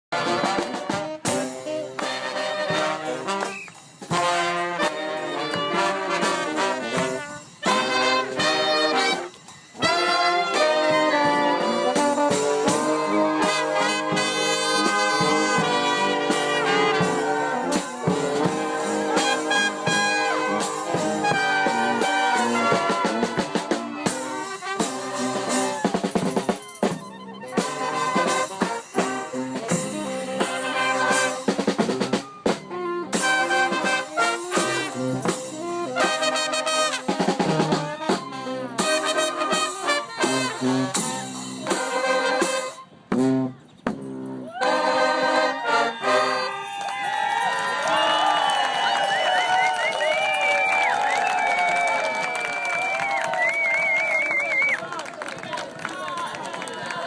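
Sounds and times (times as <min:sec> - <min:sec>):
jazz-like brass and drums music: 0:00.0 - 0:46.7.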